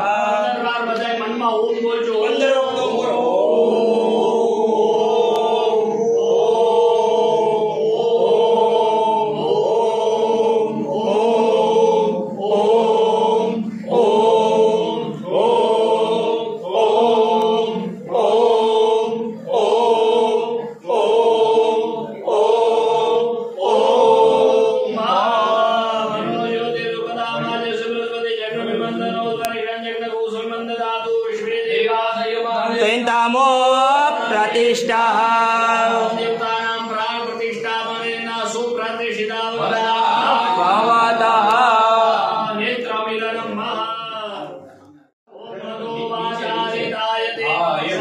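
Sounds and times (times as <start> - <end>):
group chanting in unison: 0.0 - 44.7, 45.3 - 48.0.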